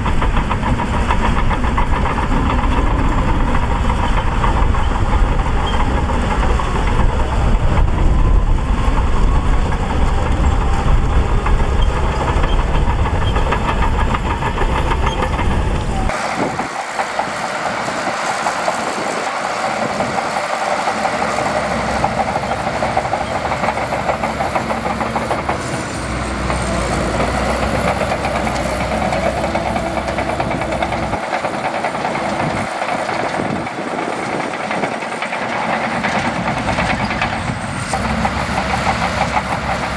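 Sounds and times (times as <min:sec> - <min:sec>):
bulldozer diesel engine under load: 0:00.0 - 0:39.9
steel tracks clattering: 0:00.0 - 0:39.9.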